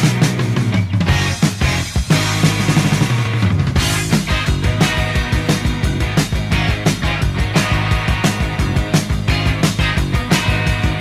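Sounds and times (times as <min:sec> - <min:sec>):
heavy metal band playing: 0:00.0 - 0:11.0.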